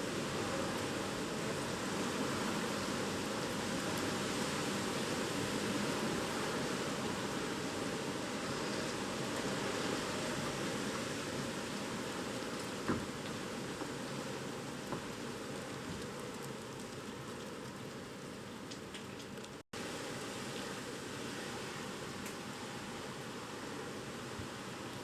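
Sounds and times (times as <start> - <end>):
wind and rain rushing: 0.0 - 25.0.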